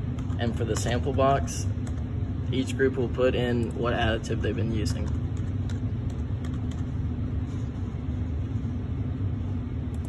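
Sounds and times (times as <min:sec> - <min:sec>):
faint steady hum: 0:00.0 - 0:10.0
low rumble of room machinery: 0:00.0 - 0:10.0.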